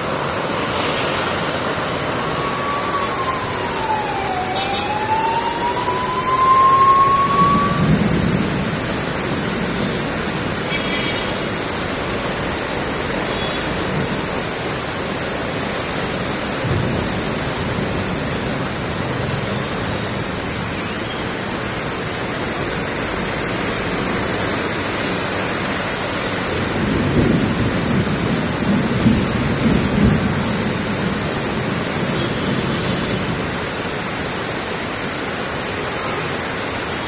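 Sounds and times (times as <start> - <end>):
heavy rain on flooded road: 0.0 - 37.0
traffic driving through water: 0.0 - 37.0.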